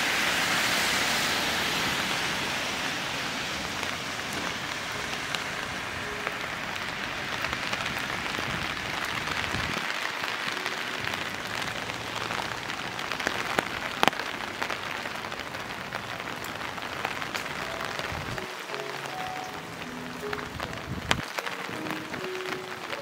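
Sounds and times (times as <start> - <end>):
rain falling: 0.0 - 23.0
sharp raindrops hitting: 0.0 - 23.0.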